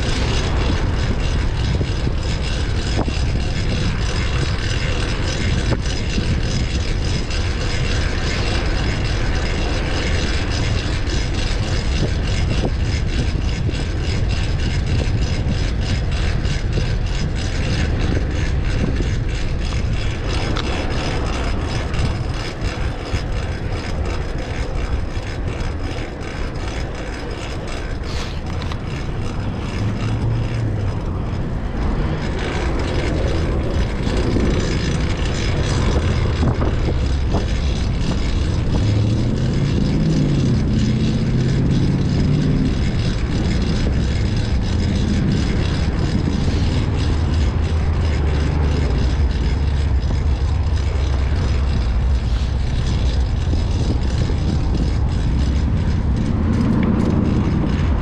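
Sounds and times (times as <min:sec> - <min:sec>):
bicycle chain drivetrain: 0:00.0 - 0:58.0
bicycle road noise: 0:00.0 - 0:58.0
wind rushing over microphone: 0:00.0 - 0:58.0.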